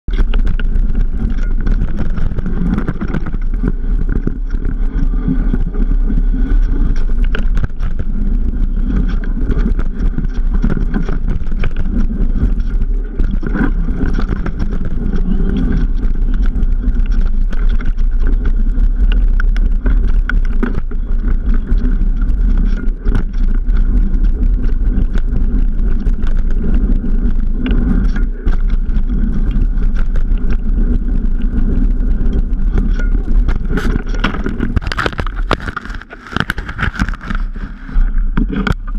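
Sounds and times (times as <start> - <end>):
bike rattling and crunching on gravel: 0.0 - 38.9
wind rushing over microphone: 0.0 - 38.9.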